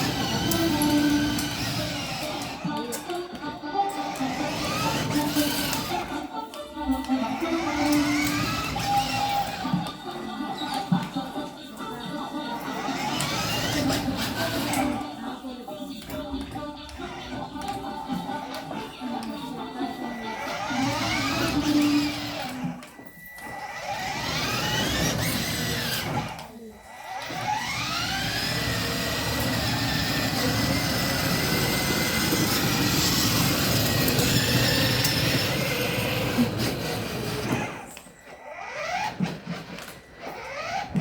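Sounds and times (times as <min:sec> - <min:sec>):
small motor whining: 0:00.0 - 0:11.4, 0:12.5 - 0:15.1, 0:17.2 - 0:41.0.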